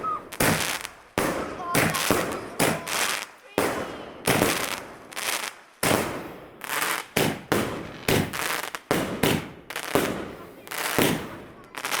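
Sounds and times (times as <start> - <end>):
fireworks banging: 0.0 - 12.0.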